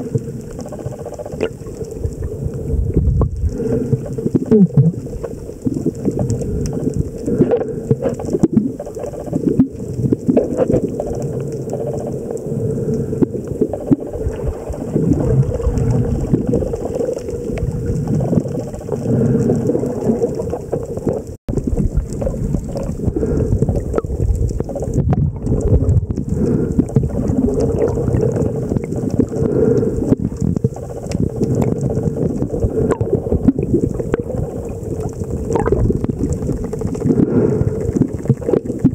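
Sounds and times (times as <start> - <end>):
muffled underwater rushing water: 0.0 - 38.9.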